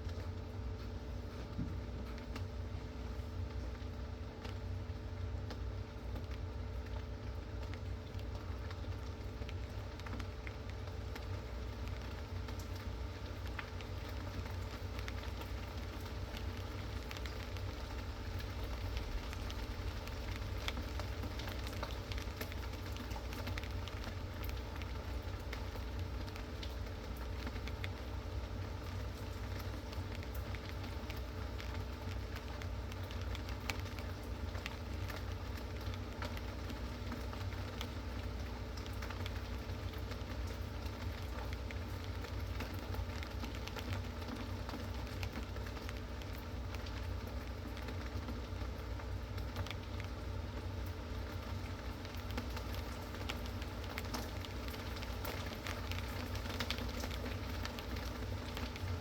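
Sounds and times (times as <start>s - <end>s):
low steady rain rumble: 0.0s - 59.0s
raindrops ticking on hard surface: 0.0s - 59.0s.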